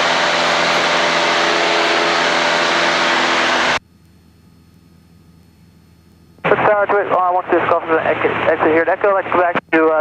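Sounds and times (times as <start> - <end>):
airplane engine and propeller drone: 0.0 - 10.0.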